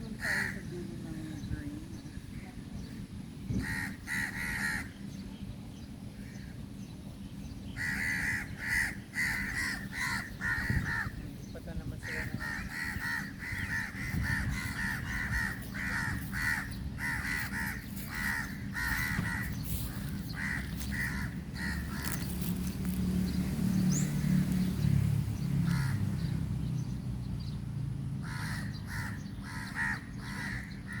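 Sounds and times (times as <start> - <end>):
birds with short harsh calls: 0.0 - 27.6, 28.2 - 31.0.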